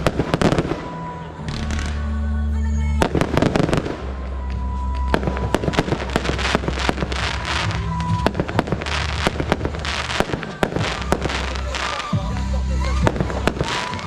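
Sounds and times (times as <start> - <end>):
fireworks bangs and crackling: 0.0 - 2.0, 3.0 - 14.0
music with deep bass notes: 0.0 - 14.0.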